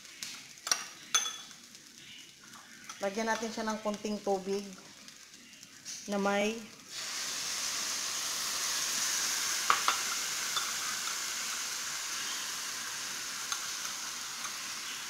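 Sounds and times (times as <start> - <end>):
meat and onions sizzling in pan: 0.0 - 15.0.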